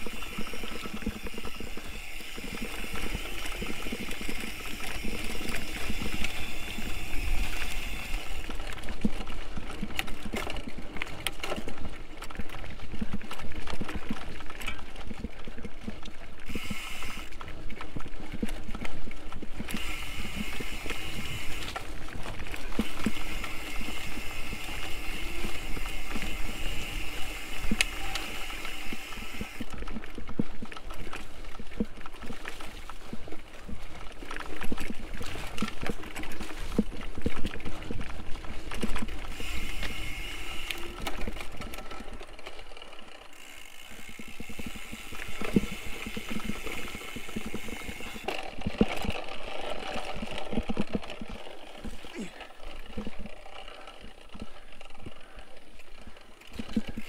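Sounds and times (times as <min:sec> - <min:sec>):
bike frame and chain rattling: 0:00.0 - 0:57.0.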